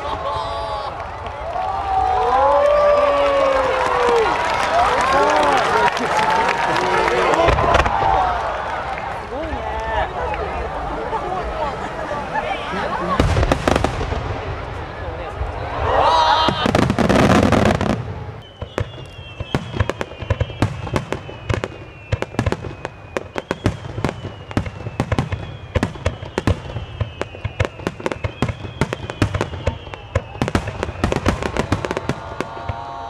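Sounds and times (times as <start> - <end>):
fireworks bangs and crackles: 0.0 - 11.6, 12.8 - 33.0.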